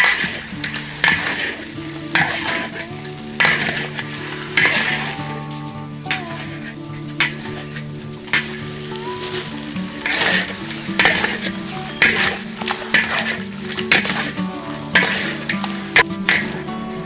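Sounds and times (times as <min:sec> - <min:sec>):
spatula scraping pan: 0:00.0 - 0:16.7
food sizzling in a hot pan: 0:00.0 - 0:17.0.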